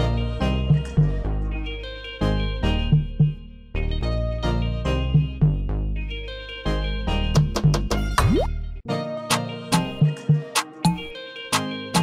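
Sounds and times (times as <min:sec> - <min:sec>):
background music with beat: 0:00.0 - 0:05.7, 0:06.3 - 0:12.0.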